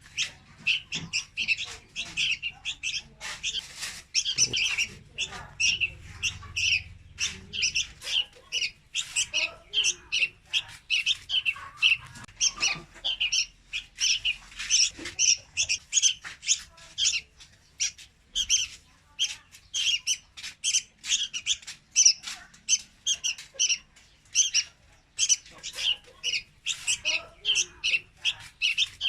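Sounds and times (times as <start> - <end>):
bird chirping rapidly: 0.0 - 29.0.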